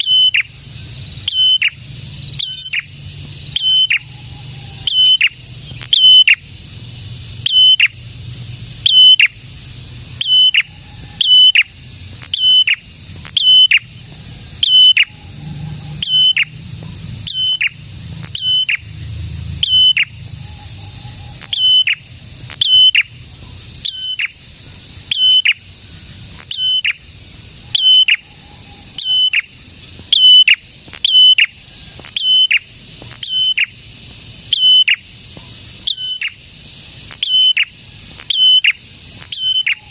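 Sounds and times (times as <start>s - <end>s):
songbird calling: 0.0s - 39.9s
steady high hiss: 0.0s - 39.9s.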